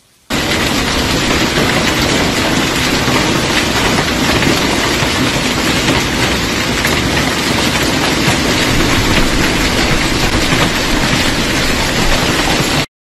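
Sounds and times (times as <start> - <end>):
hail clattering on pavement: 0.3 - 12.9.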